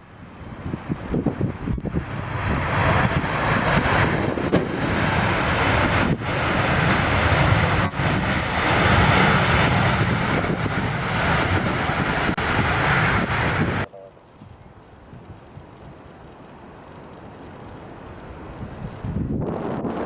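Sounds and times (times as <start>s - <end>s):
jet airliner engines: 0.0s - 20.0s.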